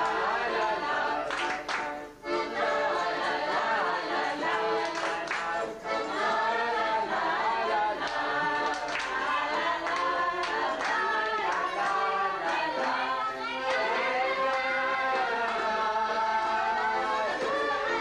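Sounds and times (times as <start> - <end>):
group singing without instruments: 0.0 - 18.0.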